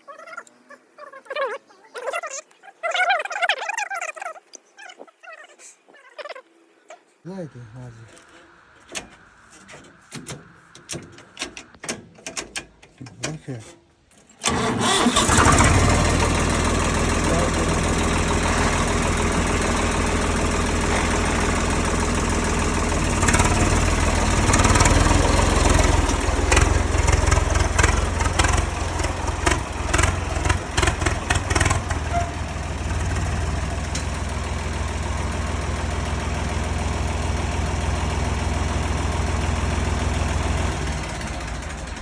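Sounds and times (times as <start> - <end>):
tractor engine idling: 7.3 - 42.0.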